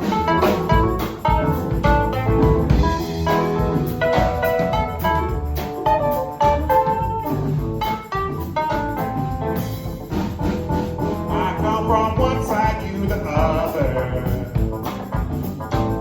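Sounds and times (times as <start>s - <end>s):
bass: 0.0s - 16.0s
steady drum beat: 0.0s - 16.0s.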